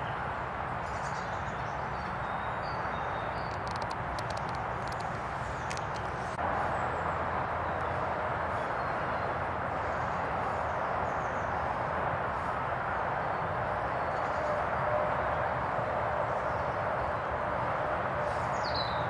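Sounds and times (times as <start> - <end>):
distant road traffic hiss: 0.0 - 19.0.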